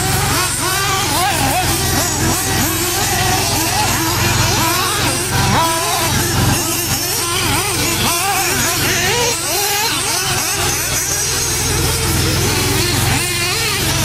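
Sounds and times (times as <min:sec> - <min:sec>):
small nitro engines screaming: 0:00.0 - 0:14.0.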